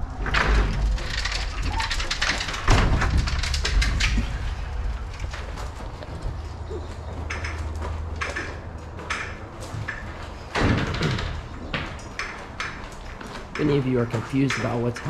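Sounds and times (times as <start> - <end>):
ladder scraping and clunking: 0.0 - 15.0.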